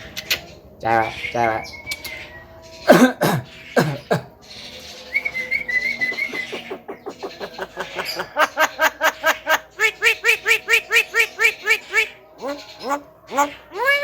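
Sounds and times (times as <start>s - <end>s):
myna whistling calls: 0.0s - 14.0s.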